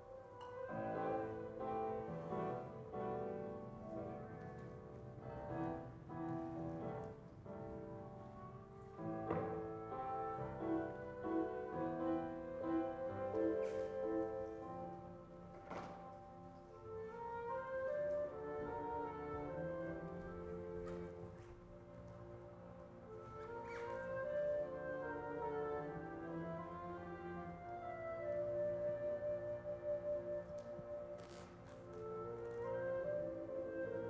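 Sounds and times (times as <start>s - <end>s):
classical piano music: 0.0s - 34.0s.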